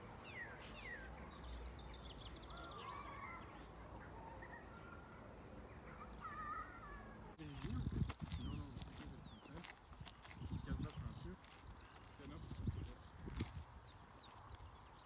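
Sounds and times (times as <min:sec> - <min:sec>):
bird trill and warbling: 0:00.2 - 0:14.3.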